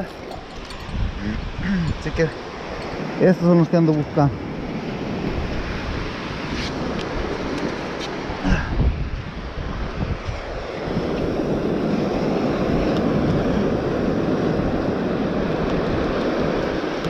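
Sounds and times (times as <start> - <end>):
ocean surf washing up beach: 0.0 - 17.0
wind on microphone: 0.0 - 17.0.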